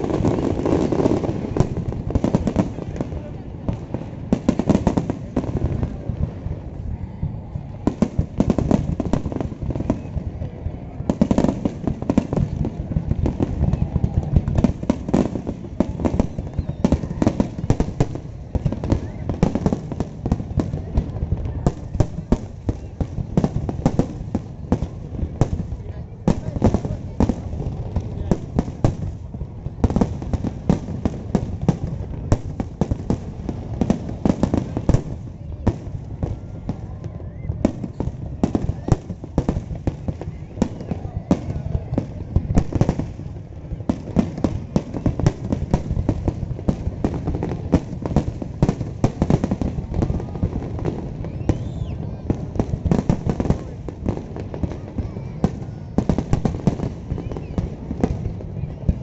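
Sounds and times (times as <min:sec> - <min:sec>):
fireworks crackling and banging: 0:00.0 - 0:59.0.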